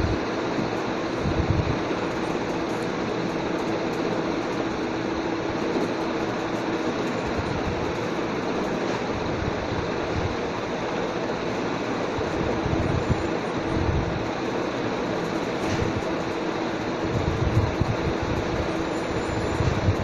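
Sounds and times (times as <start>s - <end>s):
machine hum and hiss: 0.0s - 20.0s.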